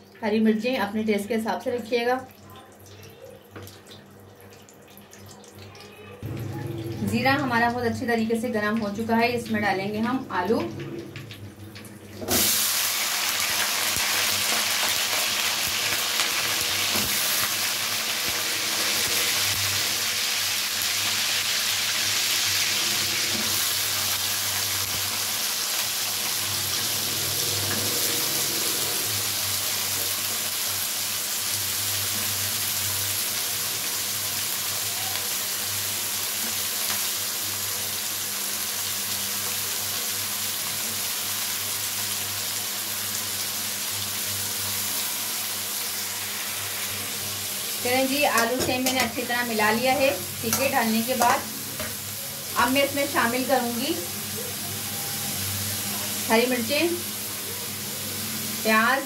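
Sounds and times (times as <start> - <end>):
vegetables frying in hot oil: 5.6 - 59.0.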